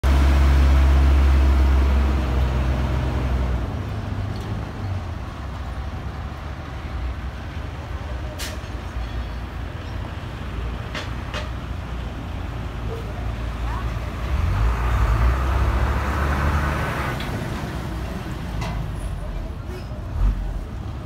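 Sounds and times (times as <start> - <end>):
large vehicle engine rumbling: 0.0 - 21.0.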